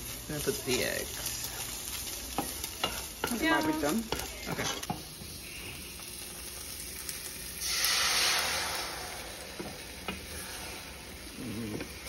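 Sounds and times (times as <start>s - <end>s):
eggs sizzling in a frying pan: 0.0s - 12.0s.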